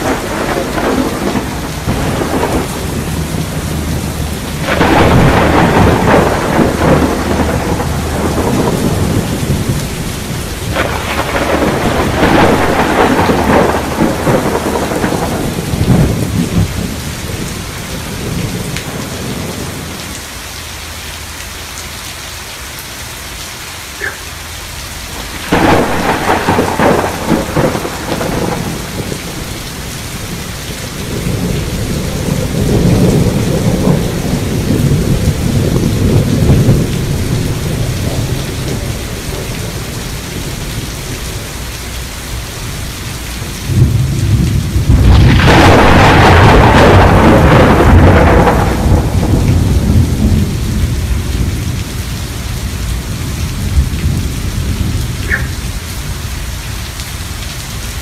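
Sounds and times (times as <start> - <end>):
rolling thunder: 0.0 - 20.2, 25.2 - 56.6
rain falling: 0.0 - 58.0.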